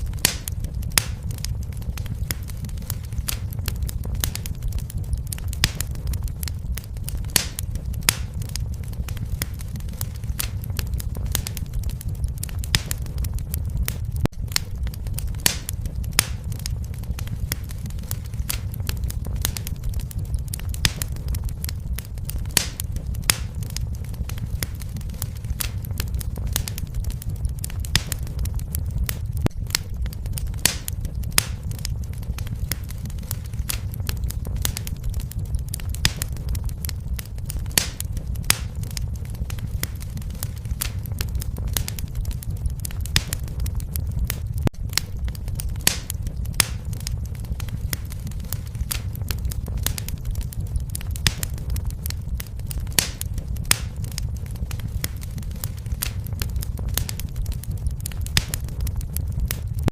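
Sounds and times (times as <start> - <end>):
fire crackling and popping: 0.0 - 59.9
low rumble: 0.0 - 59.9.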